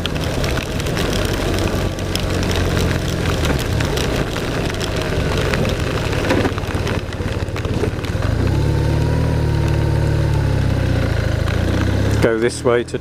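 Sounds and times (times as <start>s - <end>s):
motorcycle engine running: 0.0s - 13.0s
raindrops spattering on camera: 0.0s - 13.0s.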